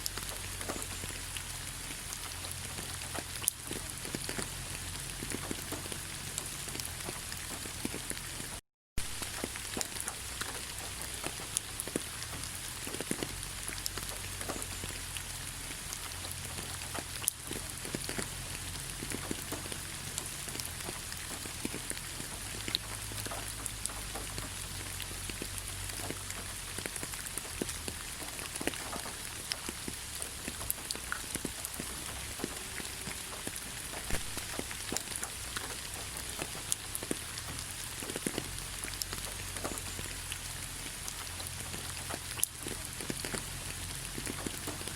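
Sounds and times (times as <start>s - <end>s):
raindrops ticking on surfaces: 0.0s - 44.9s
steady rain hiss: 0.0s - 44.9s.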